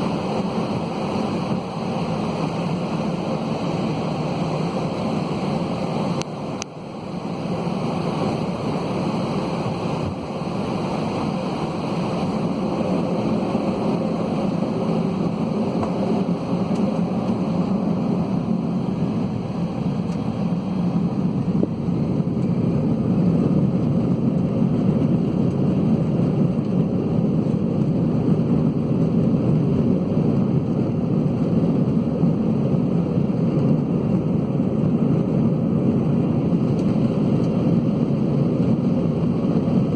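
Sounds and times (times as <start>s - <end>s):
jet engines and airflow in cabin: 0.0s - 39.9s.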